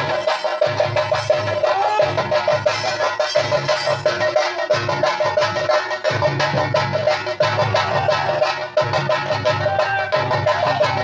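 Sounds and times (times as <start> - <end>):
drums playing fast rhythm: 0.0 - 11.0
small metal cymbals: 0.0 - 11.0.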